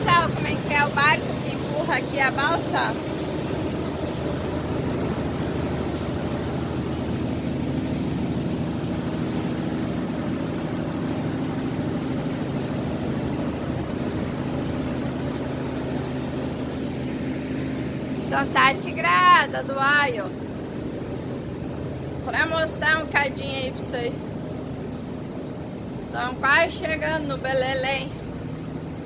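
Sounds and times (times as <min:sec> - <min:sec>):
boat engine low drone: 0:00.0 - 0:29.0.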